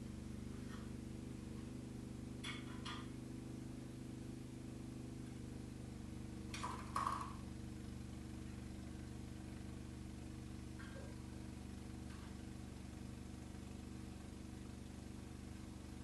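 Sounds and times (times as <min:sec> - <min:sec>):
snowblower engine running: 0:00.0 - 0:16.0.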